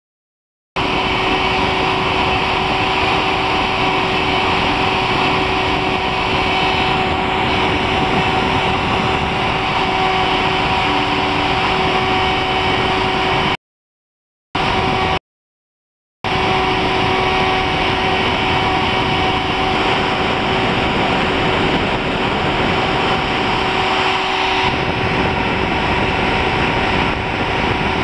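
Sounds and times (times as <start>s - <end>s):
spindle whine: 0.8s - 13.6s, 14.6s - 15.2s, 16.2s - 28.0s.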